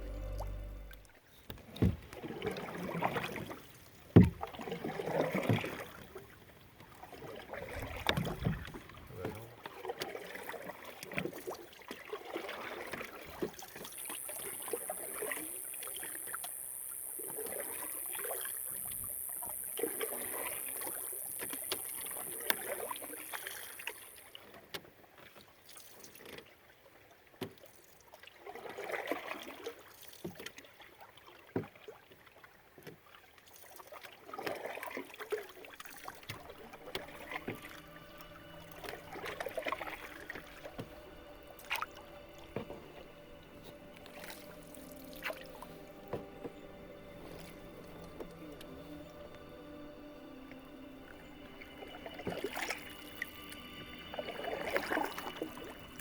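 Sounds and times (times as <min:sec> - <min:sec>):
paddles swishing through water: 0:00.0 - 0:56.0.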